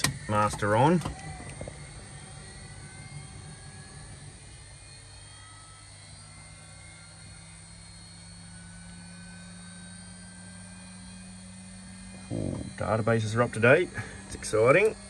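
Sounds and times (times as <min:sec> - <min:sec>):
faint high whines: 0:00.0 - 0:15.0
low electrical hum: 0:00.0 - 0:15.0.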